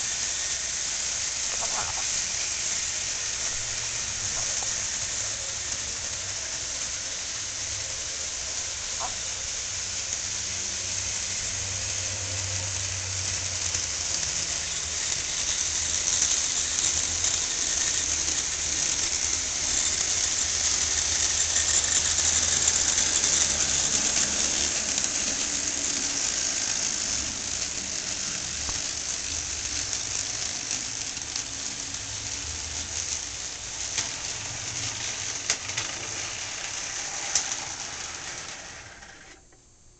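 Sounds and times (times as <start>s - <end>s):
model train motors and wheels: 0.0s - 39.9s.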